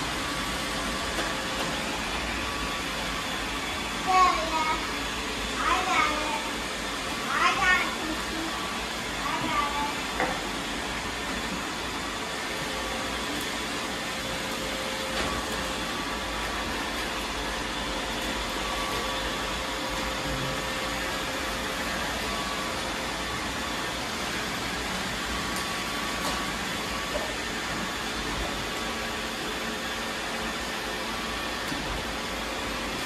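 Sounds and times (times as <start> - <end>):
robot vacuums whirring: 0.0 - 33.0.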